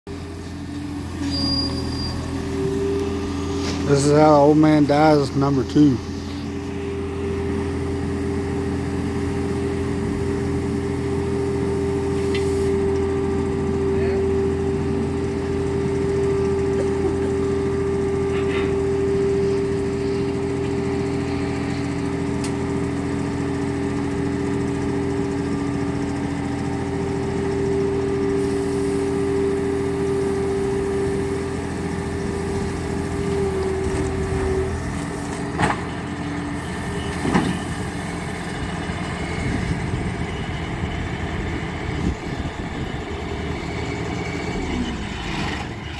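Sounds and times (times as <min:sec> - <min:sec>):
loader engine running: 0:00.1 - 0:45.9.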